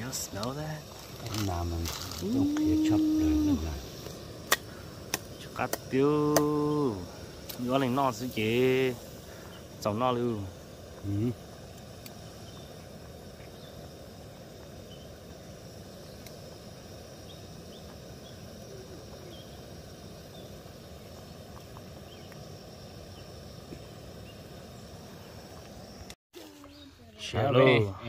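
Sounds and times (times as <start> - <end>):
gas stove flame roaring: 0.0 - 26.2.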